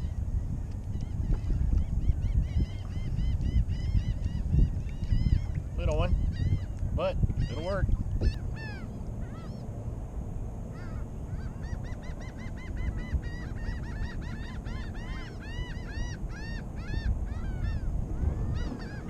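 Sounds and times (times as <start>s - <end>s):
steady low rumble: 0.0s - 19.0s
birds calling: 0.8s - 9.8s, 10.6s - 19.0s.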